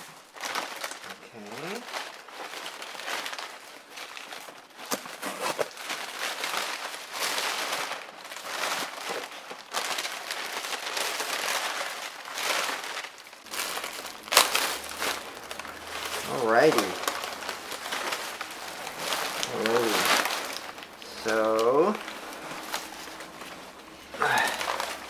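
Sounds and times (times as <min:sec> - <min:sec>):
packaging crinkling and rustling: 0:00.0 - 0:25.0.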